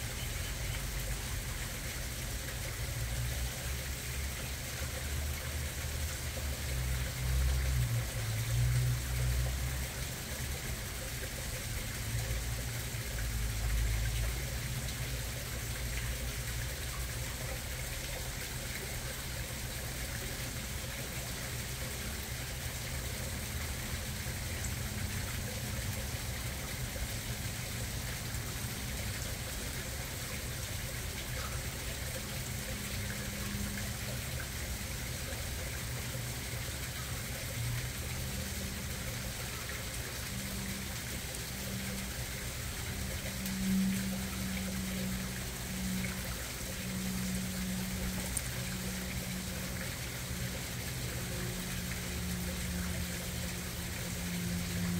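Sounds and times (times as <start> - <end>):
waterfall splashing into pond: 0.0 - 54.9.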